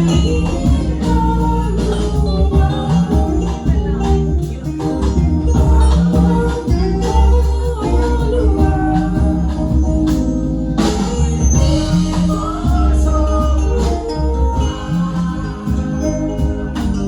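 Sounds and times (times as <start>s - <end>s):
choir singing gospel: 0.0s - 17.0s
live band: 0.0s - 17.0s.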